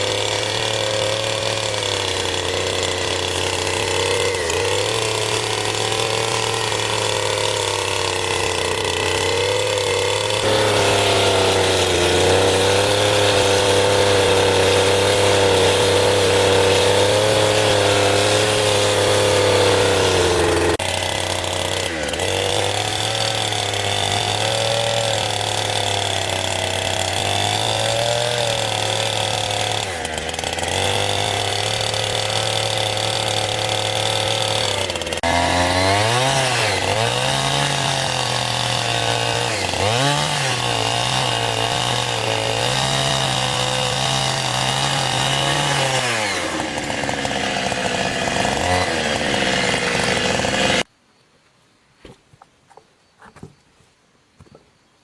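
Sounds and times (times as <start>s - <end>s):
chainsaw engine running: 0.0s - 50.9s.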